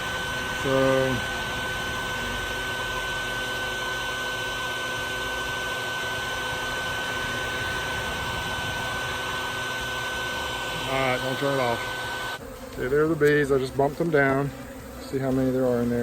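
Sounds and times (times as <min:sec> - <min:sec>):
vacuum motor whining: 0:00.0 - 0:13.4.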